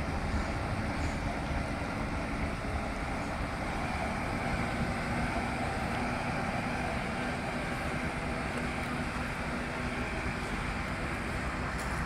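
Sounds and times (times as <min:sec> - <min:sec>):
forklift diesel engine running: 0:00.0 - 0:12.0.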